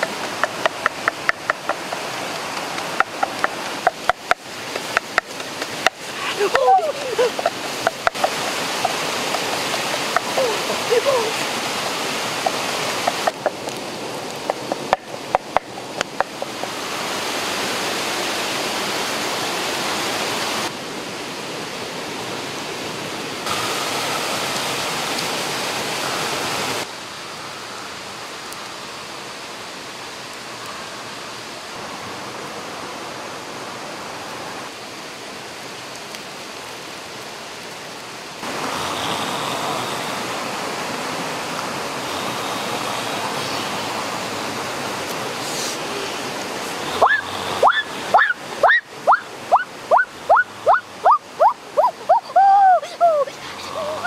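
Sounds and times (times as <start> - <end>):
waterfall and stream rushing: 0.0 - 54.0.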